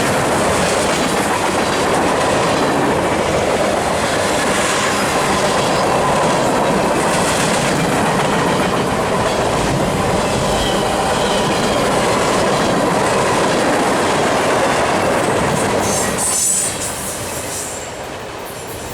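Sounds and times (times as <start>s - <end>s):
train wheels rolling on rails: 0.0s - 18.9s.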